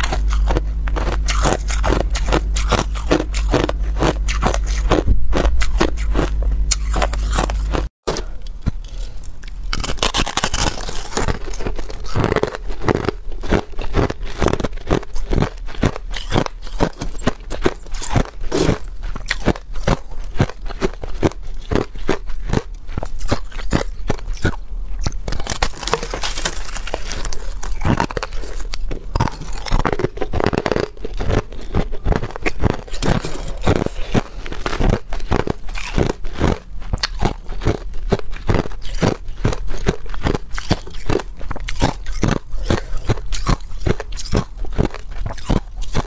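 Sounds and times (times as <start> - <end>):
crushed ice crunching in mouth: 0.0 - 46.0.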